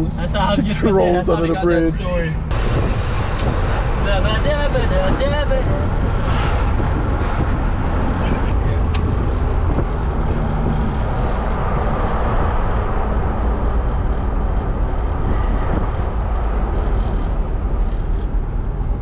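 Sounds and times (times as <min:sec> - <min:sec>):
car driving on road: 0:00.0 - 0:19.0.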